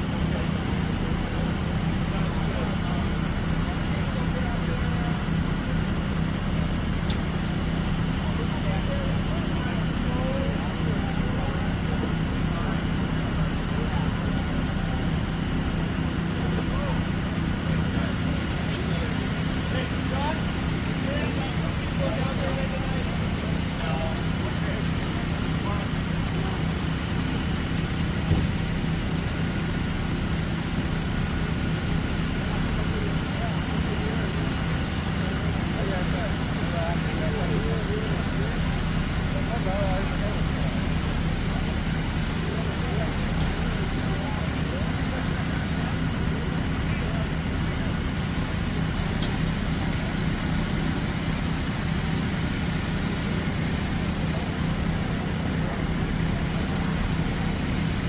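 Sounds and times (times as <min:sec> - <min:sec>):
fire truck engine idling: 0:00.0 - 0:58.0.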